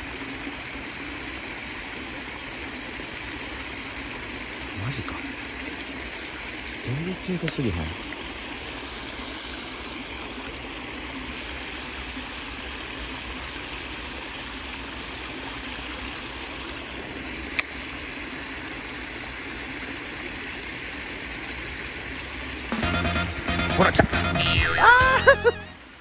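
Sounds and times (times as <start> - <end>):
water rushing over weir: 0.0 - 26.0.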